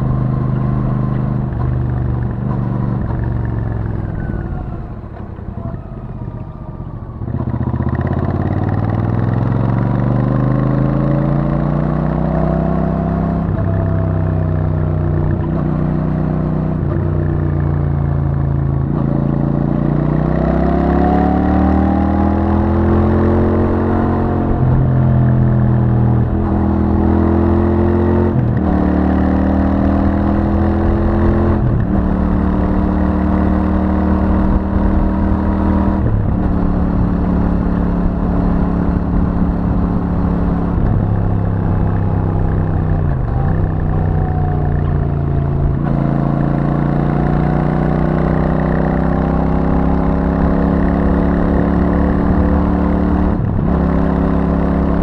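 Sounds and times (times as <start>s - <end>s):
motorcycle engine under way: 0.0s - 55.0s.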